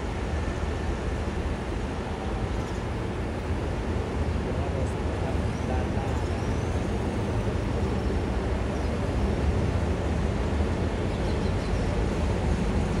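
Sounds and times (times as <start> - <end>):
diesel railcar rumbling: 0.0 - 13.0.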